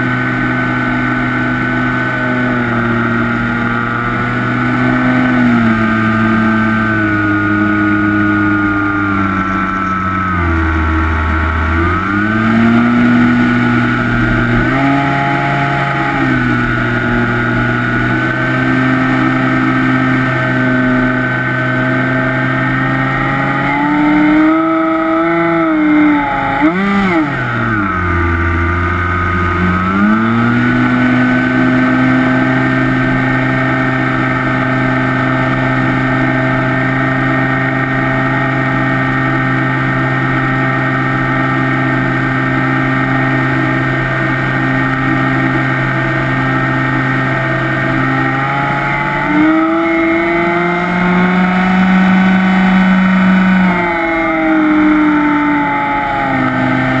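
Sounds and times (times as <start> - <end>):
electric motor and propeller droning: 0.0 - 57.0.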